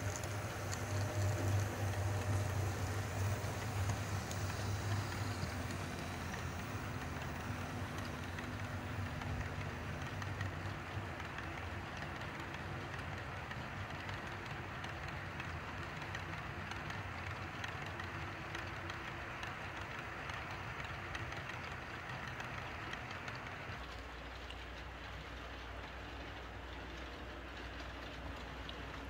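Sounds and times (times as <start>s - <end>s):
model locomotives humming: 0.0s - 29.0s
model train wheels rattling: 0.0s - 29.0s.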